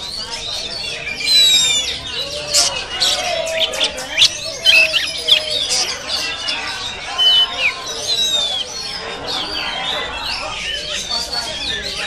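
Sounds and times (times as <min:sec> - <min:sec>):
bird singing: 0:00.0 - 0:12.0.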